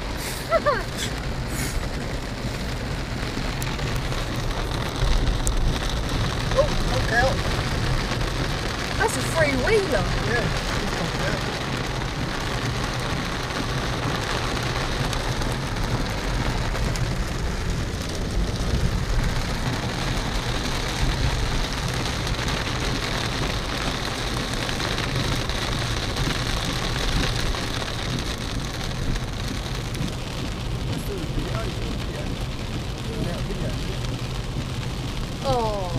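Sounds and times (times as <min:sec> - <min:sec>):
engine and tyres rumbling: 0:00.0 - 0:35.9
heavy rain on car roof: 0:00.0 - 0:35.9.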